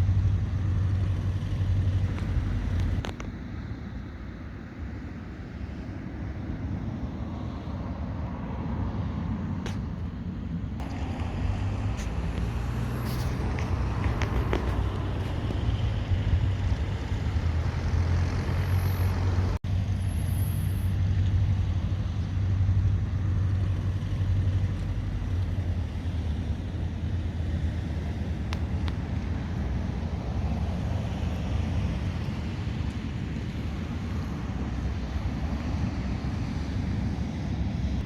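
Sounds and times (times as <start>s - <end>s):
propeller plane engine droning: 0.0s - 38.0s.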